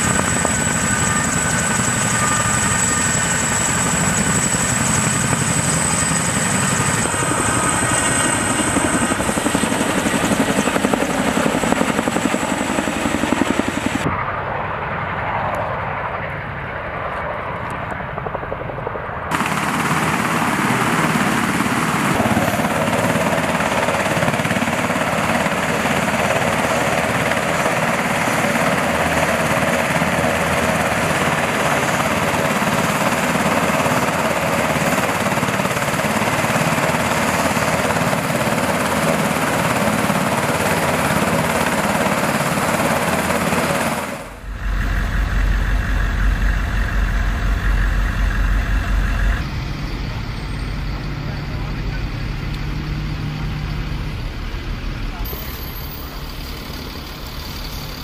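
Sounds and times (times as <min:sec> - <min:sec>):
distant helicopters flying: 0:00.0 - 0:58.0
helicopter running on ground: 0:00.0 - 0:58.0
helicopter turbine whine: 0:00.0 - 0:58.0.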